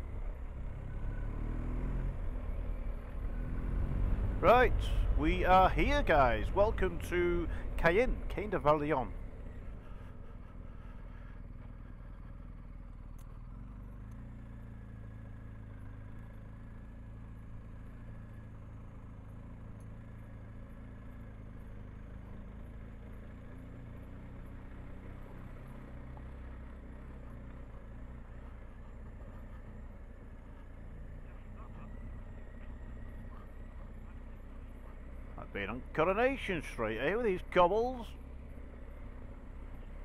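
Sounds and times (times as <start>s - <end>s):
motorcycle engine running: 1.8s - 40.0s.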